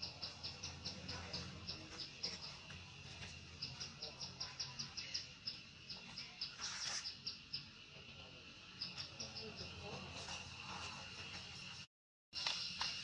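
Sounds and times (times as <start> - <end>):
insects chirping: 0.0 - 11.8, 12.4 - 13.0.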